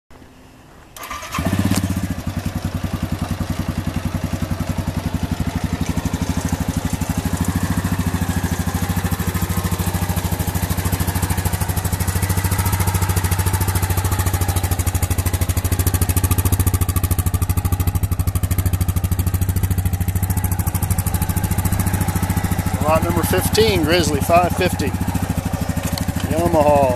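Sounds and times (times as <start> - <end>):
atv engine idling: 1.0 - 26.9.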